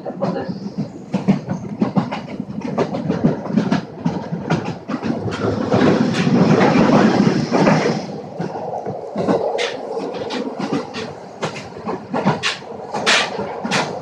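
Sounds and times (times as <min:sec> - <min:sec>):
train wheels clicking on rails: 0:00.0 - 0:14.0.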